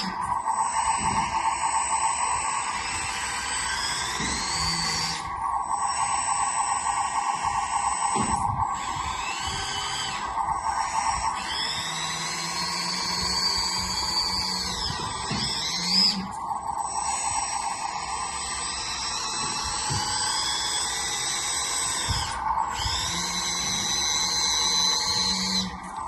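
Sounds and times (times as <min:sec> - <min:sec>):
electric motors whining: 0:00.0 - 0:26.0
steady buzz: 0:00.0 - 0:26.0.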